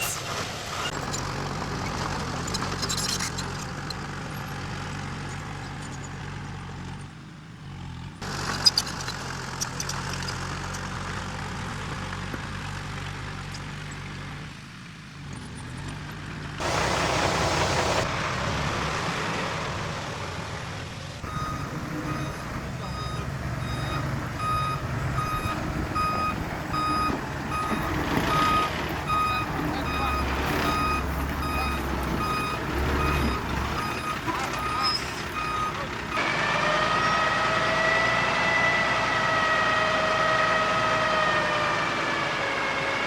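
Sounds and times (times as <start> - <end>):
heavy machinery diesel engine: 0.0 - 43.0.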